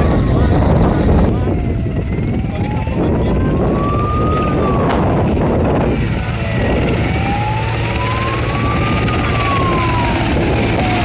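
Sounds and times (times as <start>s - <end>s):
emergency siren wailing: 0.0s - 11.0s
helicopter flying overhead: 0.0s - 11.0s.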